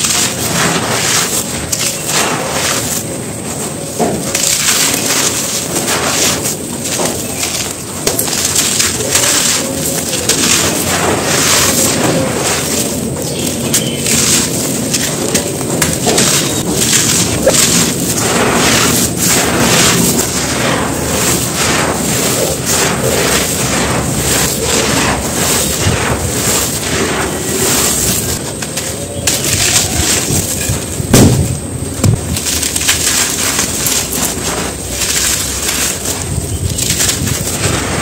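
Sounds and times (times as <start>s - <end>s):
dirt being crumbled by hand: 0.0s - 38.0s
grains falling onto dirt: 0.0s - 38.0s.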